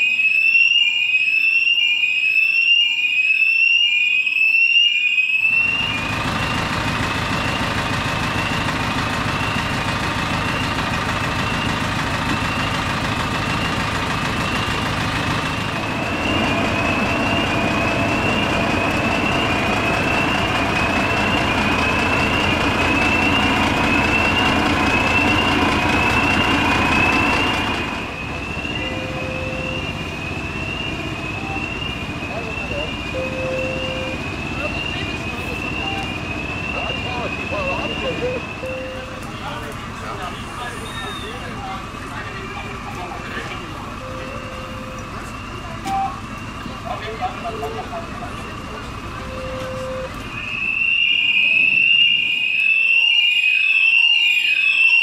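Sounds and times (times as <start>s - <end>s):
fire alarm whooping: 0.0s - 55.0s
vehicle engine running: 5.8s - 50.3s.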